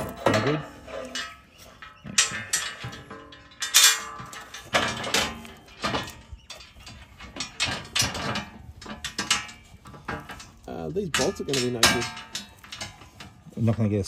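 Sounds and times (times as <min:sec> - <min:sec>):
metallic clinks and knocks: 0:00.0 - 0:13.8.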